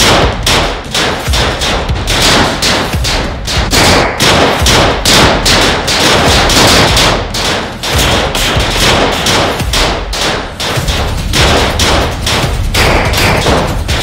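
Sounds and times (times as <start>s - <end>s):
rapid handgun gunfire: 0.0s - 14.0s.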